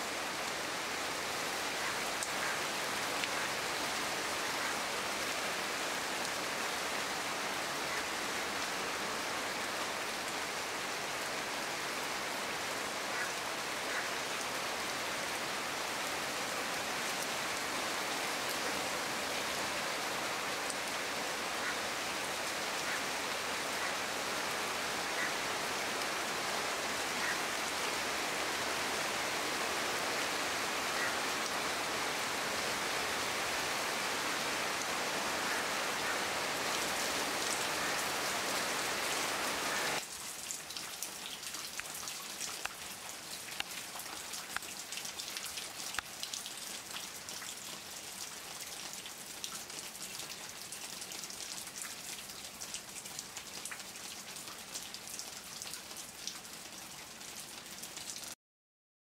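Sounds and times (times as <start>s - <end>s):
rain falling on foliage: 0.0s - 58.4s.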